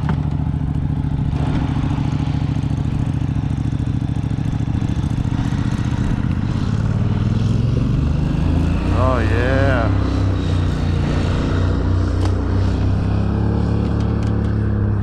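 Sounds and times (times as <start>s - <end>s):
motor running at low pitch: 0.0s - 15.0s.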